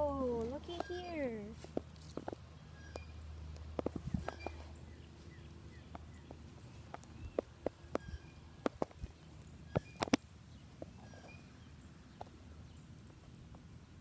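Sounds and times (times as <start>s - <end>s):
bare feet on dry mulch: 0.0s - 14.0s.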